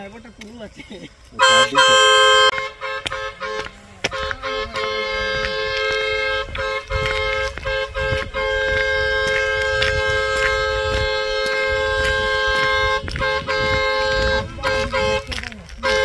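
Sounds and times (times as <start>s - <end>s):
dual-tone vehicle horn honking: 1.4s - 16.0s.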